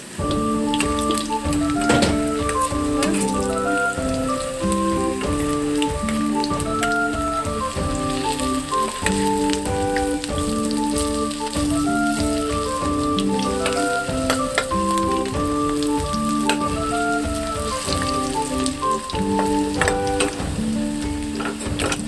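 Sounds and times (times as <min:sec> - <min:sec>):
fritters sizzling in oil: 0:00.0 - 0:22.0
instrumental music: 0:00.0 - 0:22.0.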